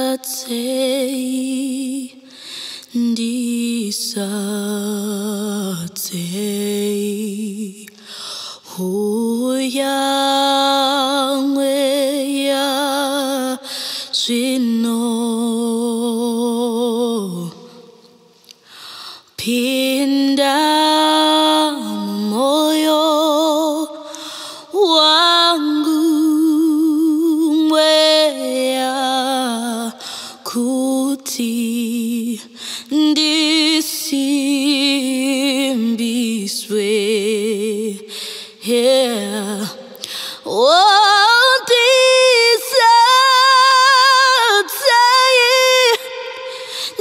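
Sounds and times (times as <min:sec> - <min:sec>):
woman singing unaccompanied: 0:00.0 - 0:02.2, 0:08.7 - 0:17.8, 0:19.4 - 0:47.0.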